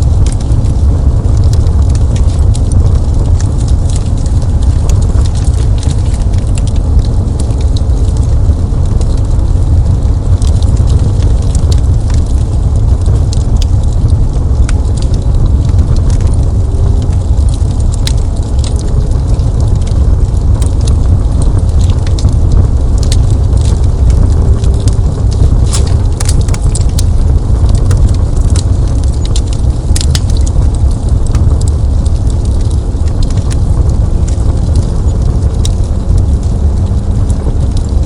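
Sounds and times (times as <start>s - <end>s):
burning wood crackling and popping: 0.0s - 38.0s
low rumble of flames: 0.0s - 38.0s.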